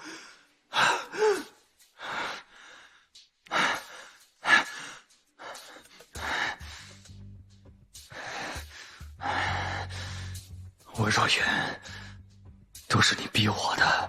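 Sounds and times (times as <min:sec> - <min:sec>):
low music: 0:00.0 - 0:14.0.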